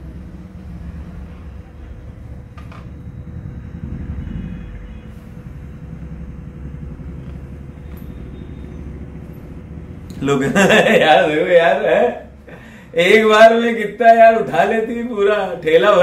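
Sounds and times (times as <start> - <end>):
imitated digger engine rumble: 0.0 - 13.5.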